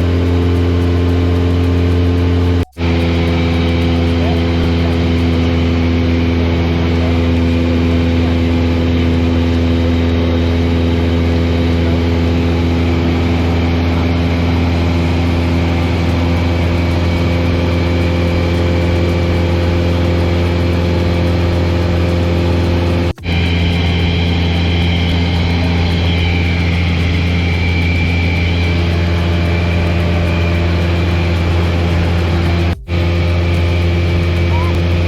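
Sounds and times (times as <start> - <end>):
light aircraft engine drone: 0.0 - 35.0.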